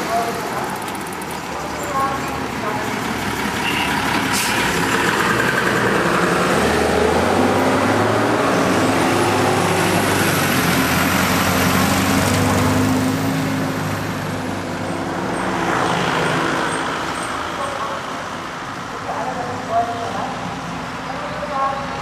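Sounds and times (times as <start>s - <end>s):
fire engine driving past: 0.0s - 22.0s.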